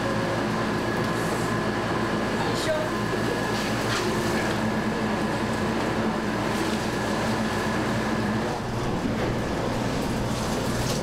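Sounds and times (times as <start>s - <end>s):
refrigeration machinery humming: 0.0s - 11.0s.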